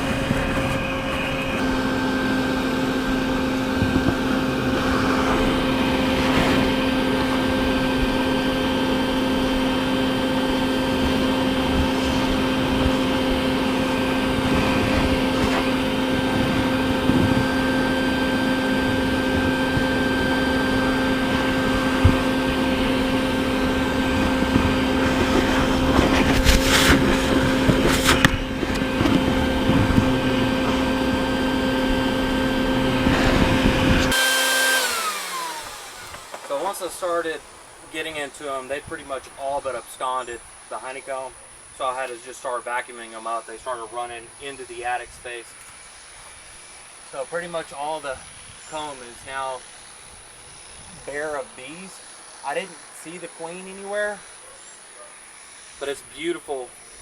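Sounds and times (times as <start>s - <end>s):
bee vacuum motor humming: 0.0s - 57.0s.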